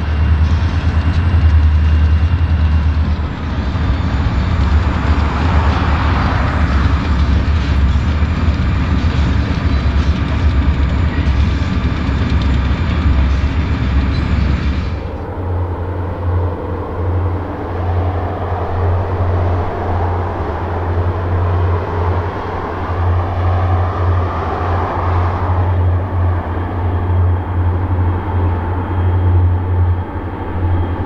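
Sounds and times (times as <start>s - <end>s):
distant locomotive rumble: 0.0s - 31.0s.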